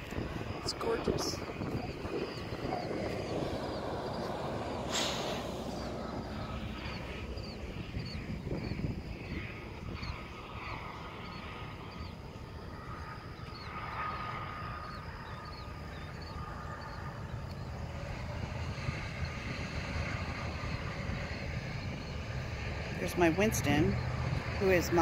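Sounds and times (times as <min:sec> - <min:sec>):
distant highway traffic rumble: 0:00.0 - 0:25.0.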